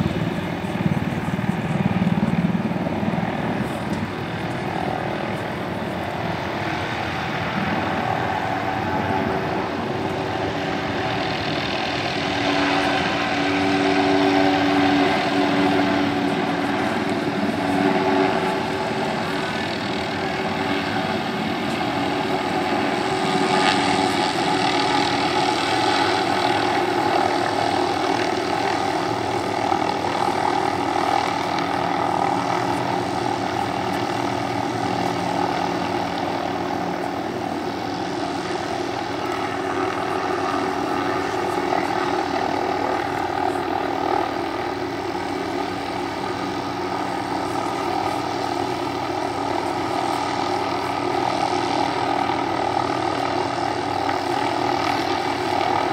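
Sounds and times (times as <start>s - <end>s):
helicopter rotor drone: 0.0s - 55.9s.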